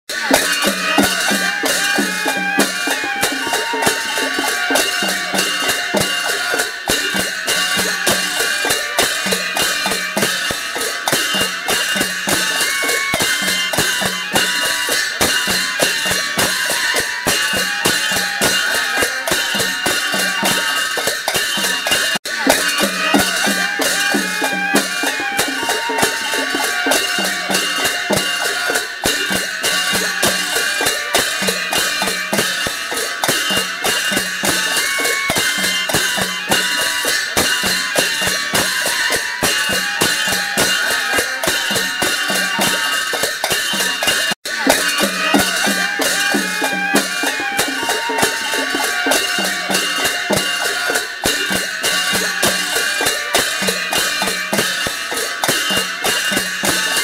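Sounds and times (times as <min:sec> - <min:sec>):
fast steady drumming: 0:00.0 - 0:57.0.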